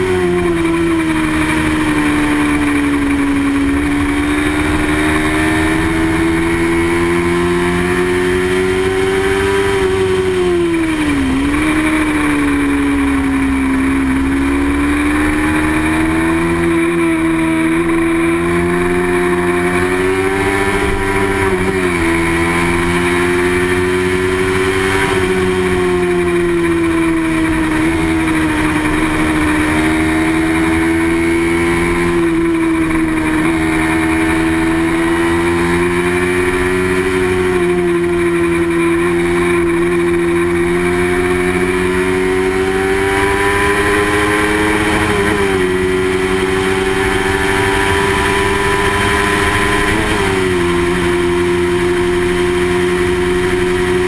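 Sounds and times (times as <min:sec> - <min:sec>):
racing motorcycle engine at high revs: 0:00.0 - 0:54.0.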